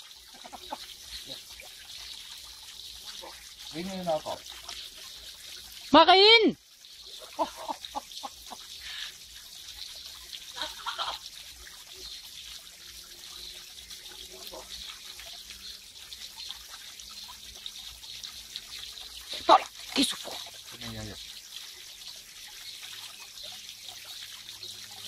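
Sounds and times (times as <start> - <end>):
pond water trickling and lapping: 0.0 - 25.0.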